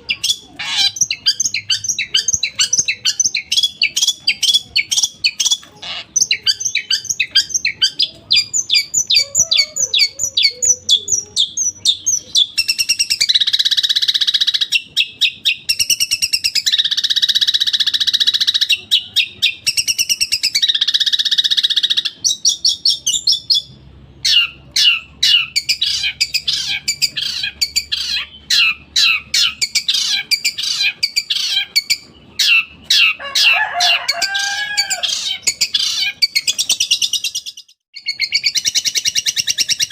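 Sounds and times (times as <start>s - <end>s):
bird singing sharp repeated notes: 0.0s - 33.2s, 34.2s - 39.9s.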